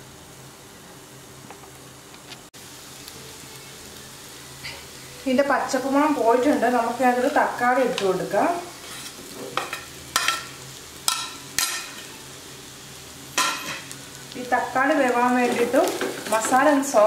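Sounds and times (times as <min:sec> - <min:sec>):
soft sizzle: 0:00.0 - 0:17.0.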